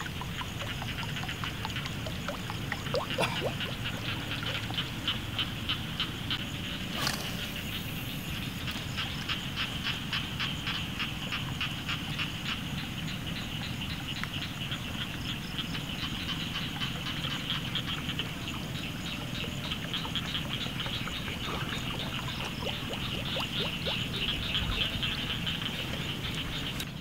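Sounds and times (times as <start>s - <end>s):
low steady rumble: 0.0s - 26.8s
chorus of frogs calling: 0.0s - 27.0s.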